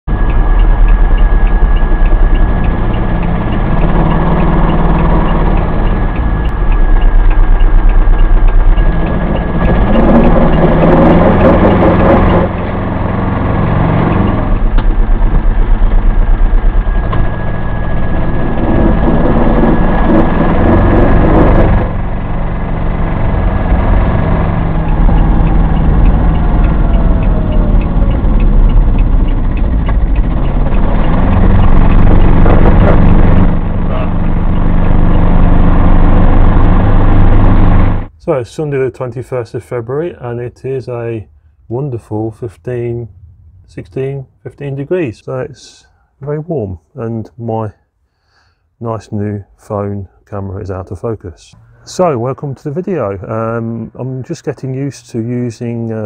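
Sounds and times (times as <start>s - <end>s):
diesel engine droning: 0.1s - 47.3s, 49.2s - 56.0s.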